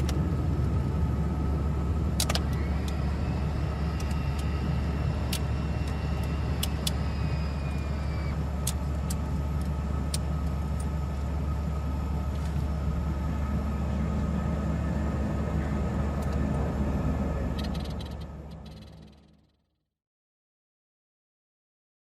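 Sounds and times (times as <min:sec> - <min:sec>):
faint high whine: 0:00.0 - 0:19.6
turboprop engines droning: 0:00.0 - 0:19.7.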